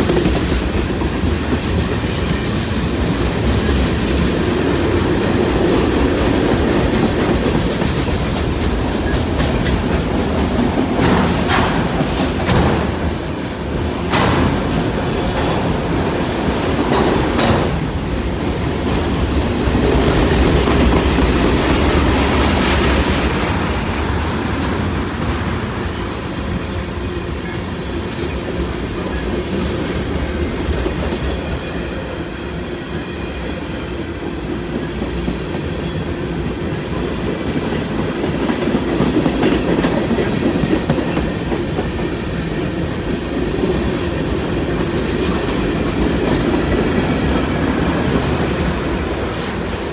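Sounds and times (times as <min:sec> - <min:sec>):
train car clunk: 0:00.0 - 0:32.2, 0:34.7 - 0:49.9
freight train rumbling: 0:00.0 - 0:49.9.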